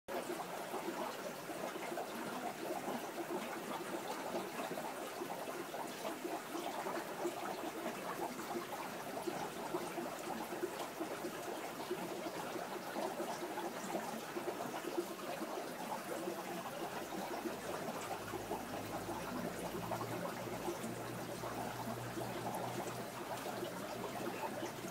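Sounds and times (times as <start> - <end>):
aquarium water trickling: 0.1 - 24.9.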